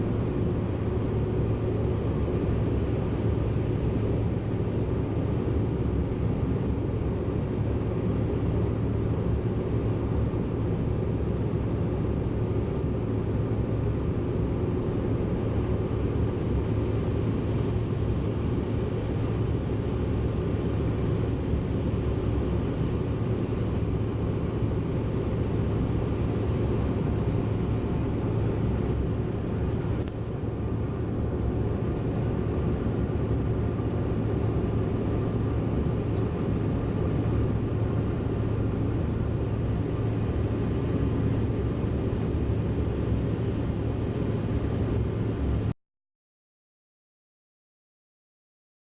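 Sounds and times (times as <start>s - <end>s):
jet engines droning: 0.0s - 45.7s
steady low hum: 0.0s - 45.8s.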